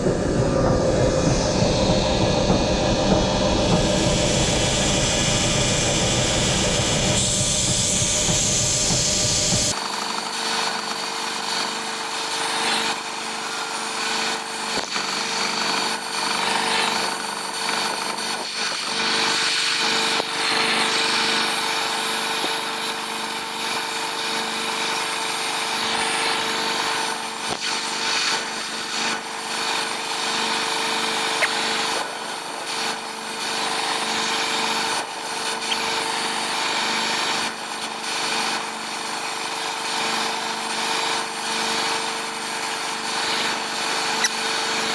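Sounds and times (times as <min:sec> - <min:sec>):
power tool grinding: 0:00.0 - 0:44.9.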